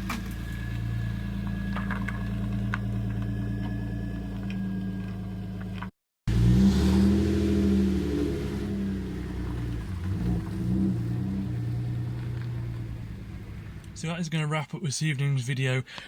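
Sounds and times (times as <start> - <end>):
car engine revving: 0.0 - 14.2
car engine idling: 0.0 - 16.0.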